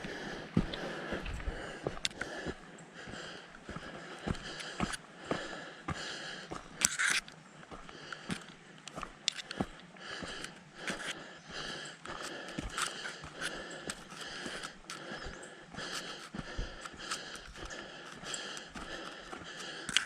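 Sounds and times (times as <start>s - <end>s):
person breathing hard: 0.0s - 7.0s, 7.7s - 20.0s
footsteps on dirt trail: 0.0s - 20.0s.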